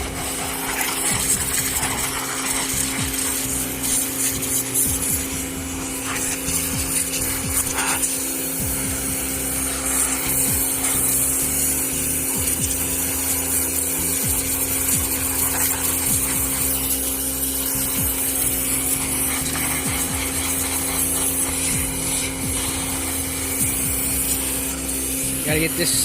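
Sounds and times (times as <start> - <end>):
pressure washer machine hum: 0.0 - 26.0
water jet hissing: 0.0 - 26.0.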